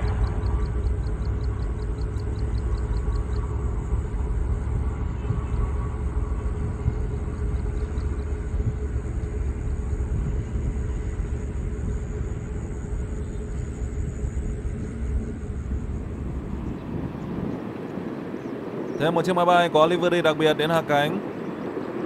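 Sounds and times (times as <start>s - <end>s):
distant jet engines rumbling: 0.0s - 22.0s
faint rapid high chirping: 0.0s - 22.0s.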